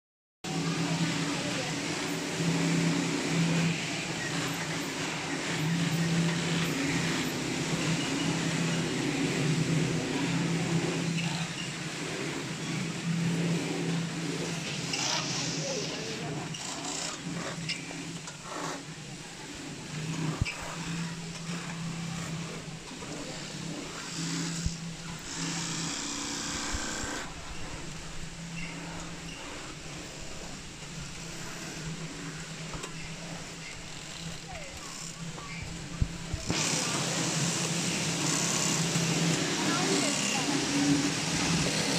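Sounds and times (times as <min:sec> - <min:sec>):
sewing machine hum: 0:00.5 - 0:41.9.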